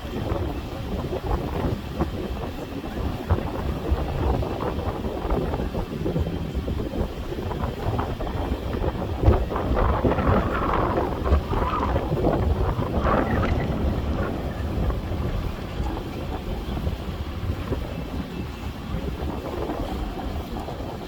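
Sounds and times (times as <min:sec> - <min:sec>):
water rushing and splashing: 0:00.0 - 0:21.0
wind buffeting microphone: 0:00.0 - 0:21.0.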